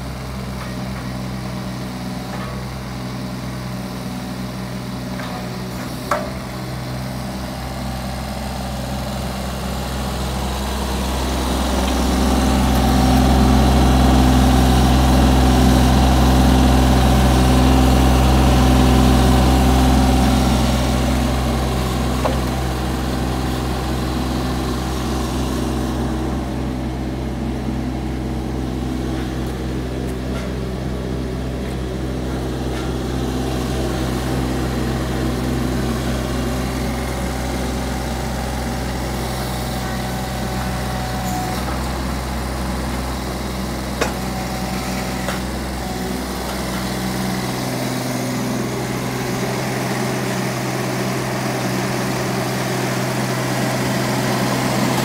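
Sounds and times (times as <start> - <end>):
diesel excavator engine idling: 0.0 - 55.0.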